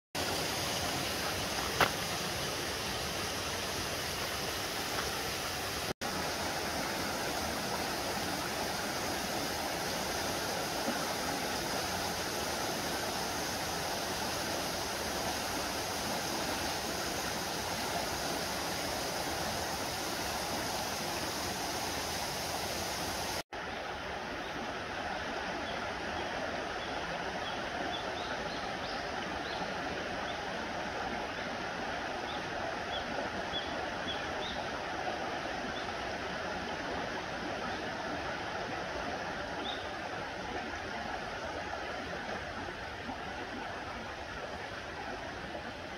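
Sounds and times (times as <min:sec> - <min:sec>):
stream flowing over rocks: 0:00.2 - 0:45.9.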